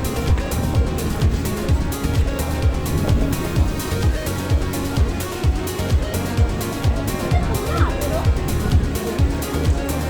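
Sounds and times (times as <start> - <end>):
electronic music: 0.0 - 10.0
kick drum beat: 0.0 - 10.0.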